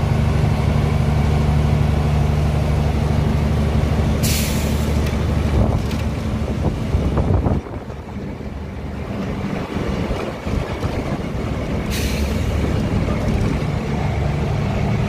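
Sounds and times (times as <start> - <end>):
truck diesel engine running: 0.0 - 15.0
tyre and road noise: 0.0 - 15.0.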